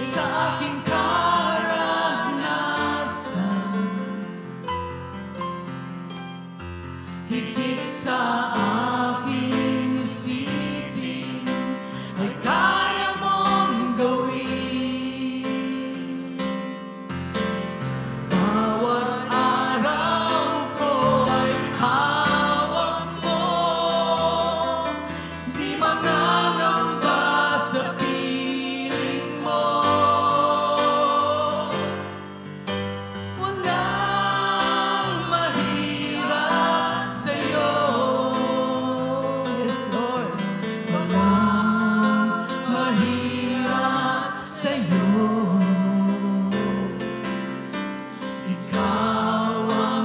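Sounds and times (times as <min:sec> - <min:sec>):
backing singers: 0:00.0 - 0:04.3, 0:07.1 - 0:16.6, 0:18.2 - 0:32.6, 0:33.3 - 0:46.4
worship band with keyboard: 0:00.0 - 0:50.0.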